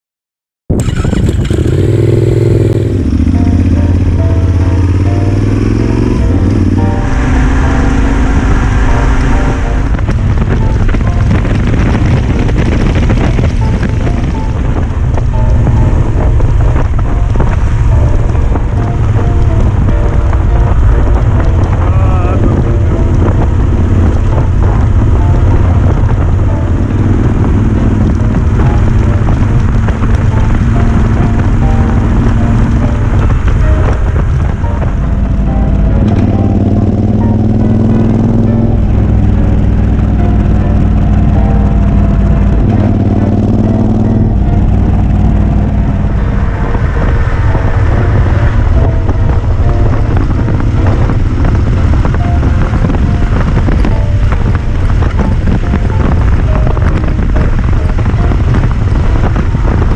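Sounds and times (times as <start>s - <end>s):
motorcycle engine running: 0.7s - 59.9s
wind rushing over microphone: 0.7s - 59.9s.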